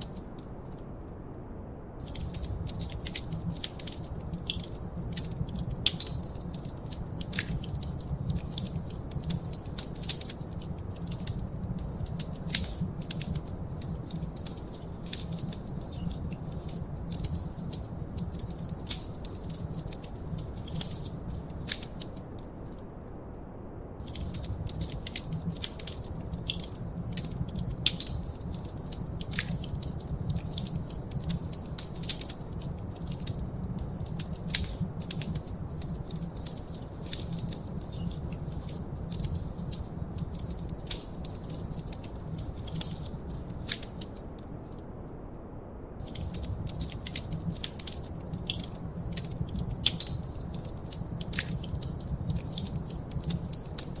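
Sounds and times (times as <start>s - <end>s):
wood fire crackling: 0.0s - 1.2s, 2.0s - 23.0s, 24.0s - 45.3s, 46.0s - 54.0s.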